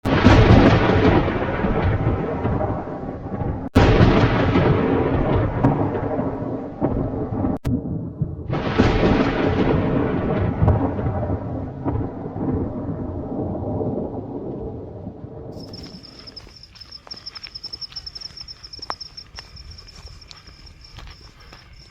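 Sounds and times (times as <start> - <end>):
thunder rumbling: 0.0 - 19.0.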